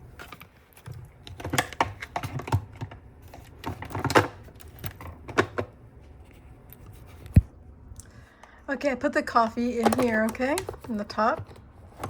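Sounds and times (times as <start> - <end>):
hands handling plastic objects: 0.0 - 8.6, 9.5 - 12.0.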